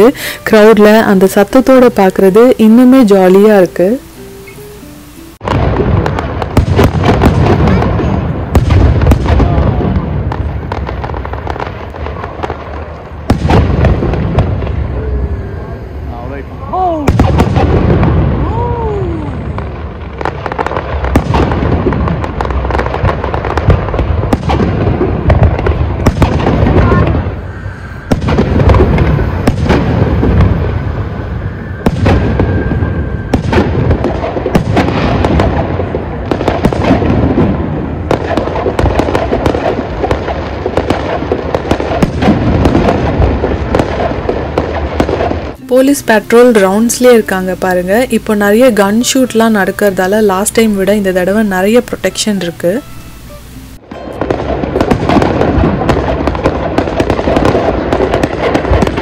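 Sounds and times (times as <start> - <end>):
fireworks bangs and crackling: 5.4 - 59.0.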